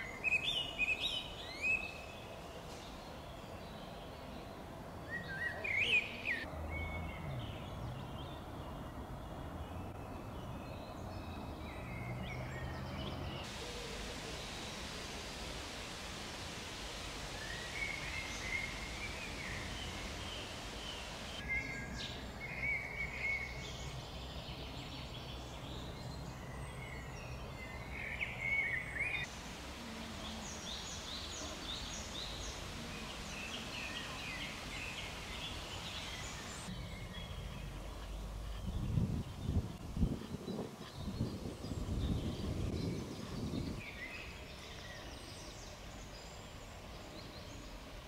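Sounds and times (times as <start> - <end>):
songbirds singing: 0.0 - 48.0.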